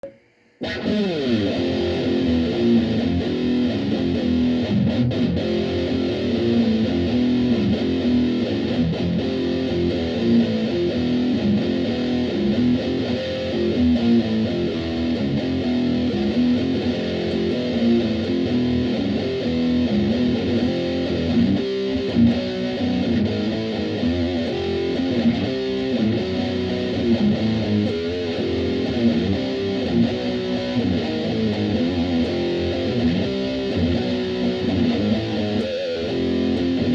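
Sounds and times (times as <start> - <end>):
distorted electric guitar blues riff: 0.6 - 36.9.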